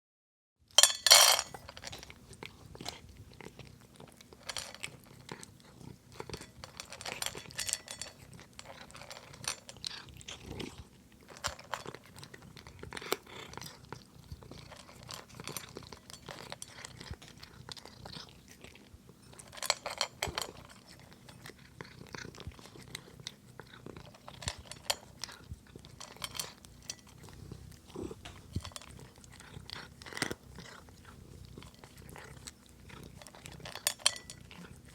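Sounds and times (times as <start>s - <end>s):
cat crunching dry kibble: 0.7s - 34.9s
cat purring: 2.0s - 34.9s.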